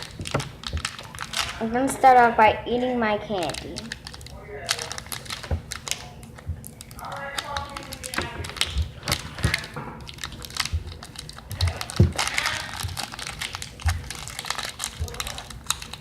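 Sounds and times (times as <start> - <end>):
candy wrapper crinkling: 0.0 - 16.0.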